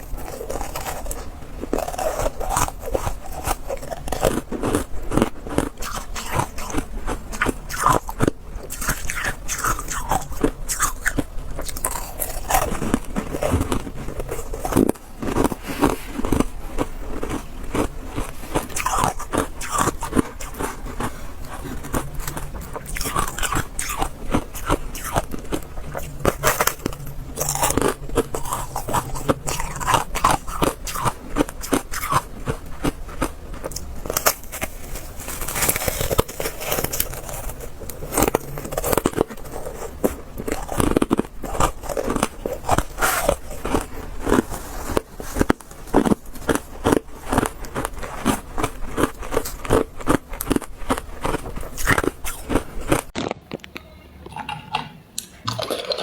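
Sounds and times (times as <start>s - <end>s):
ice crunching between teeth: 0.0s - 53.7s.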